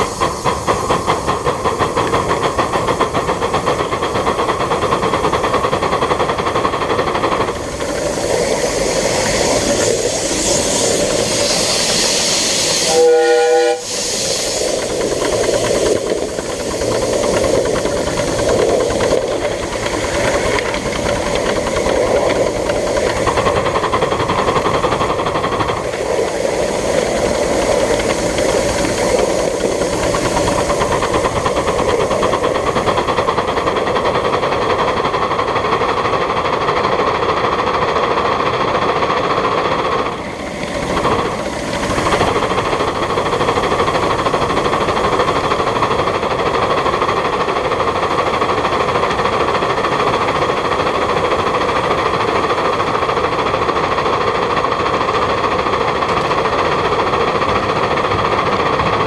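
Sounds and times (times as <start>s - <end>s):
steam locomotive running: 0.0s - 59.0s
train rolling on track: 0.0s - 59.0s.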